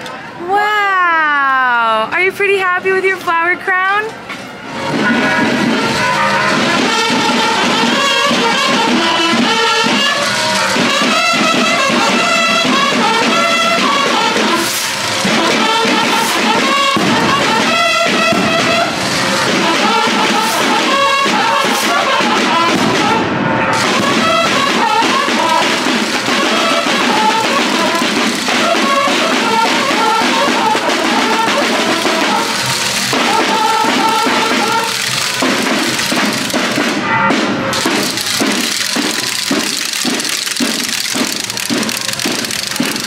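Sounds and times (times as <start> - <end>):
brass horns playing melody: 4.6 - 43.0
snare drums beating: 4.8 - 43.0.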